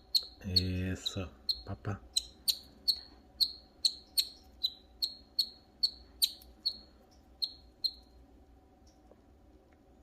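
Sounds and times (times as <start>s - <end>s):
canary chirping: 0.0s - 8.2s.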